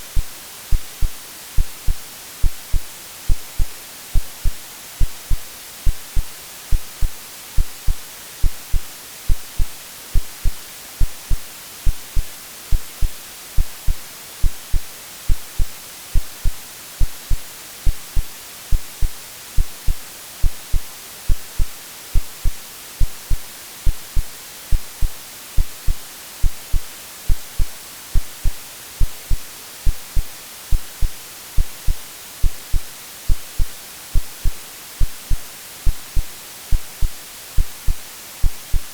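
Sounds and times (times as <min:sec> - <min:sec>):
white noise hiss: 0:00.0 - 0:38.9
heartbeat double thumps: 0:00.2 - 0:38.9.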